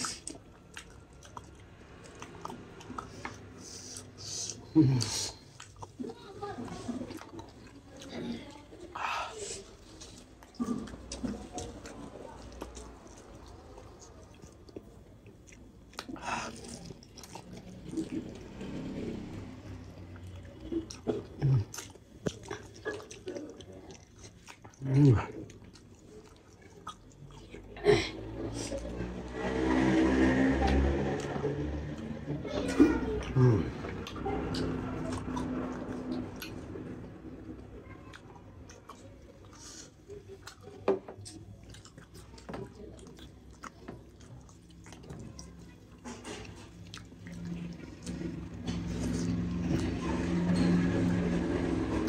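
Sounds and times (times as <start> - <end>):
mouth chewing: 0.0 - 29.6, 30.7 - 52.0.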